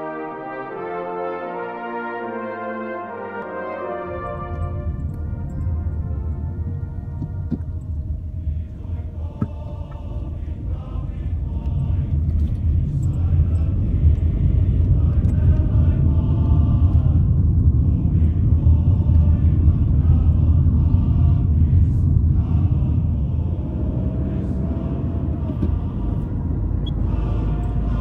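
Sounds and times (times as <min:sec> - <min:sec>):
faint music with singing: 0:03.4 - 0:28.0
car driving rumble: 0:04.2 - 0:28.0.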